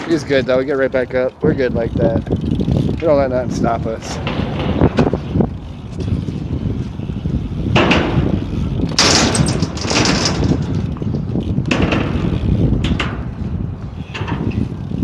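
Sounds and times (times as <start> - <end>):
hissing wind rushes: 0.0 - 15.0
wind buffeting microphone: 0.0 - 15.0.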